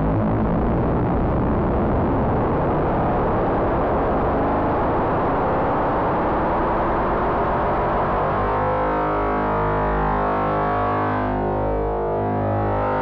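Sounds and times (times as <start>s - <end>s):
noisy synthesizer drone: 0.0s - 13.0s.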